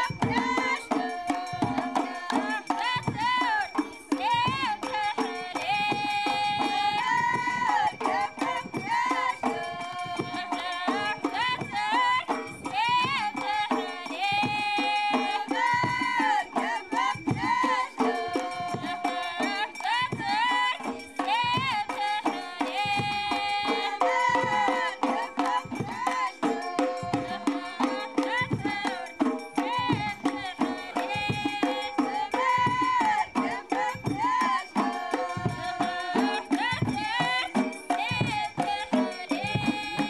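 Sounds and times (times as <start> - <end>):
steady percussion: 0.0 - 40.0.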